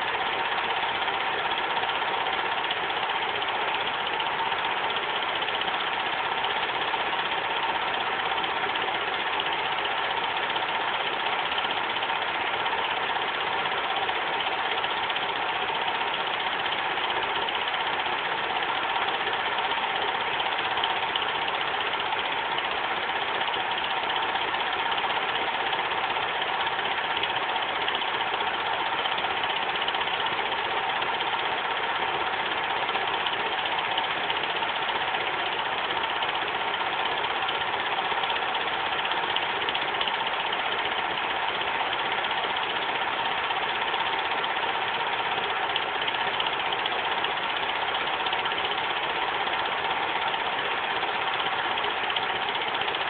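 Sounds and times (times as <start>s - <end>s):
film projector whirring: 0.0s - 53.0s.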